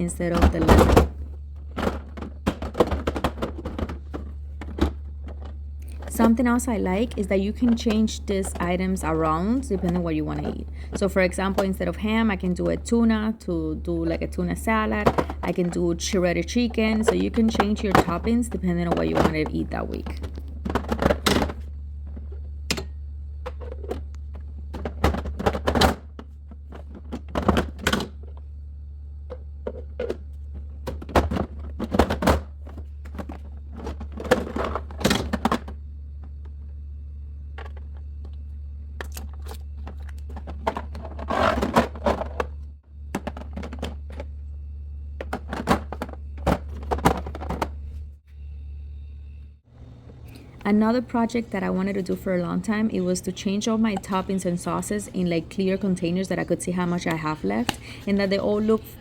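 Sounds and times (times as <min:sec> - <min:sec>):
plastic containers clicking and knocking: 0:00.0 - 0:28.4, 0:29.3 - 0:36.5, 0:39.0 - 0:44.4, 0:45.2 - 0:48.0, 0:50.3 - 0:59.0
low hum: 0:00.0 - 0:59.0.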